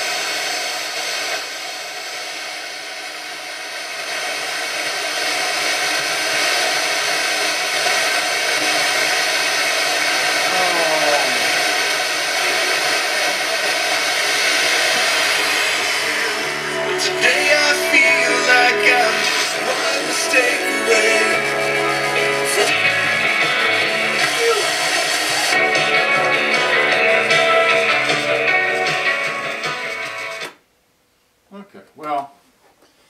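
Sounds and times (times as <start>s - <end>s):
radio static hiss: 0.0s - 30.6s.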